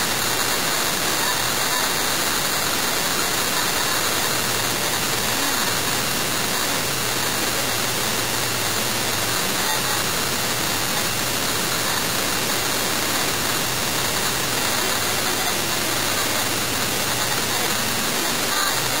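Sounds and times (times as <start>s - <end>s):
steady static hiss: 0.0s - 19.0s.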